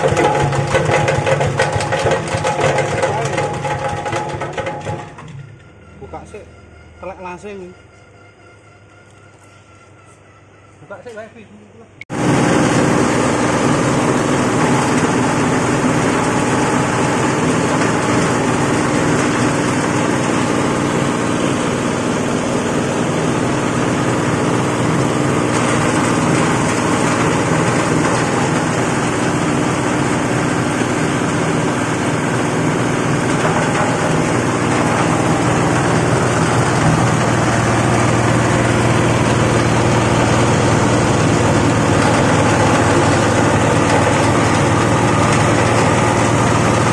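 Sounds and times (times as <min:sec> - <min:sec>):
shredding machine running loudly: 0:00.0 - 0:07.7, 0:12.1 - 0:46.9.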